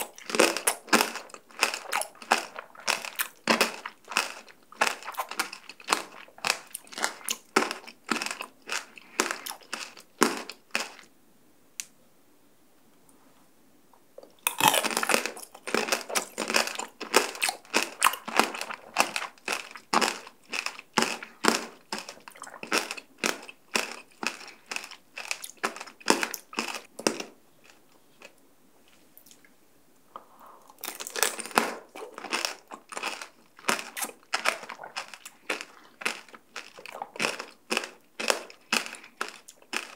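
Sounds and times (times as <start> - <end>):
crunching and chewing candied fruit: 0.0 - 11.1, 14.2 - 28.4, 30.2 - 39.9.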